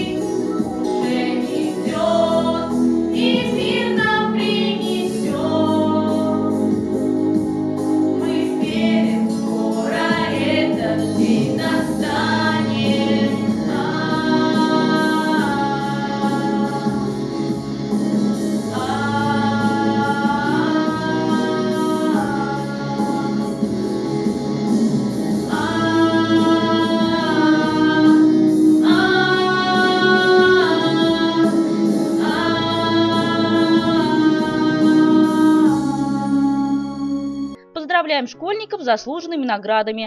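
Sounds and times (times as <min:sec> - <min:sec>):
vocal ensemble singing: 0:00.0 - 0:37.6
backing track music: 0:00.0 - 0:40.0.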